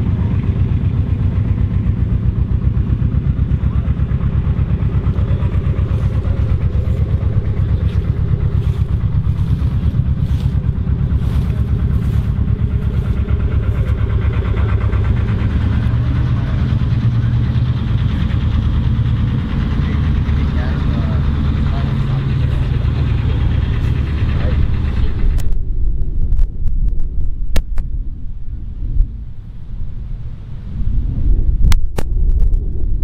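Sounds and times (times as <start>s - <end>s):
machinery rattling: 0.0s - 26.6s
tractor engine running: 0.0s - 33.0s.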